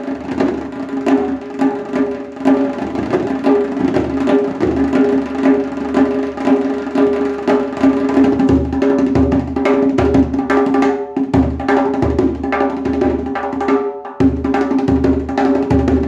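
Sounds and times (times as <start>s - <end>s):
djembe drumming: 0.0s - 16.0s.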